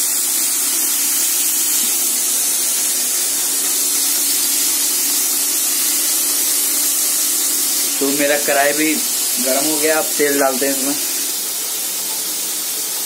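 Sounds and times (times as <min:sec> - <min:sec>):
gas stove hiss: 0:00.0 - 0:13.0.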